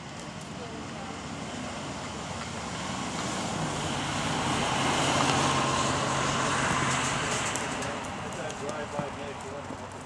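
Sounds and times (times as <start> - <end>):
vehicle passing by: 0.0 - 10.0.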